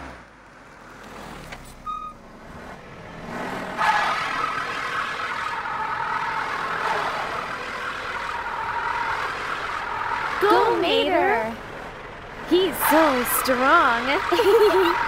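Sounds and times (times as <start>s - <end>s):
truck engine revving under load: 0.0s - 15.0s.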